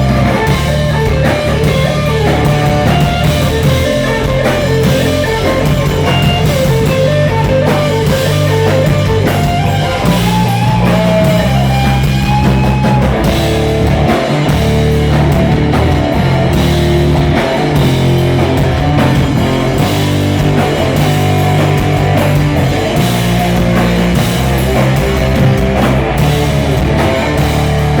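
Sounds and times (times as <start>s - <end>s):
rock music with guitar and drums: 0.0s - 28.0s.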